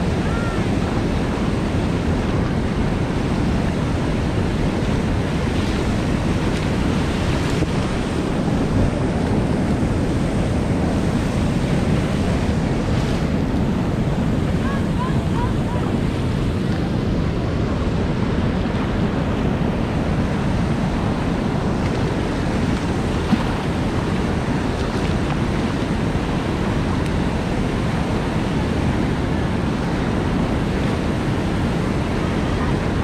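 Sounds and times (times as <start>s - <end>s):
choppy water around kayak: 0.0s - 33.0s
wind on microphone: 0.0s - 33.0s.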